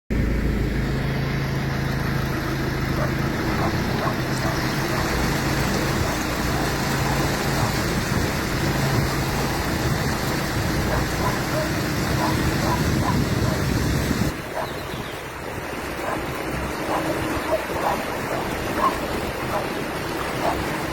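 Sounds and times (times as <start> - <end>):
vehicle engine running: 0.1 - 20.9.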